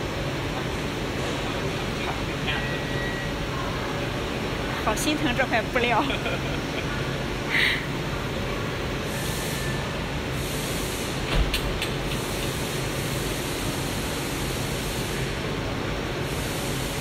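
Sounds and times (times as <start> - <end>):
laser cutter running: 0.0 - 17.0.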